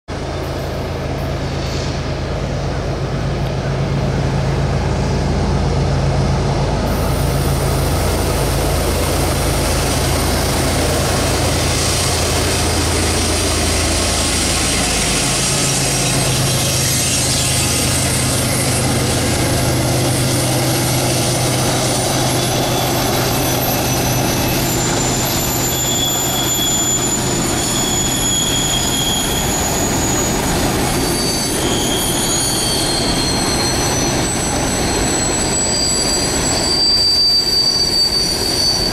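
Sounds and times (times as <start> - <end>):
locomotive engine drone: 0.1 - 38.9
train wheels squealing: 0.2 - 38.9.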